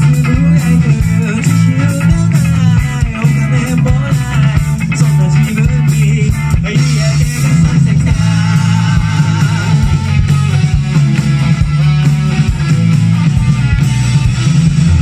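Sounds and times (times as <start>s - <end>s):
electric guitars: 0.0s - 15.0s
heavy electric bass line: 0.0s - 15.0s.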